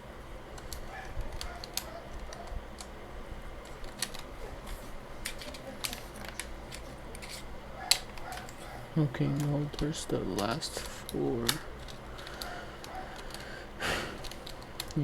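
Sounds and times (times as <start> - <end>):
keyboard keys clicking: 0.6 - 3.0, 3.6 - 4.3, 5.2 - 15.0.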